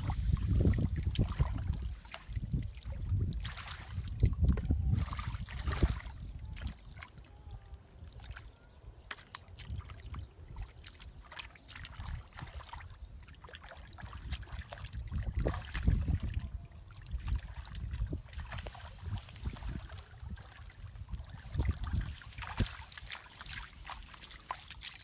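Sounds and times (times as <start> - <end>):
hands splashing in muddy water: 0.0 - 7.3, 8.0 - 25.0.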